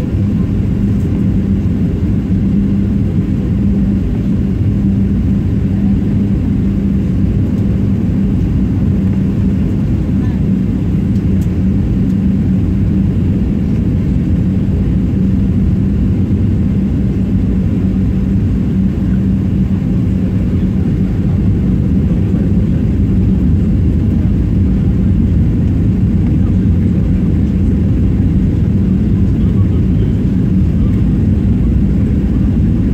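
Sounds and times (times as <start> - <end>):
constant hum: 0.0 - 32.9
jet engines and airflow rumble: 0.0 - 32.9.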